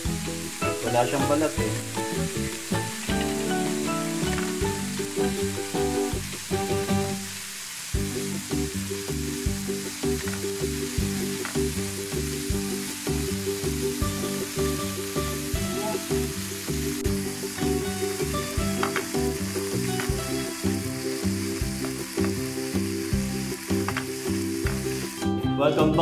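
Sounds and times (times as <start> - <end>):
background music with bass line: 0.0 - 7.3, 8.0 - 26.0
shrimp sizzling in a pan: 0.0 - 25.3.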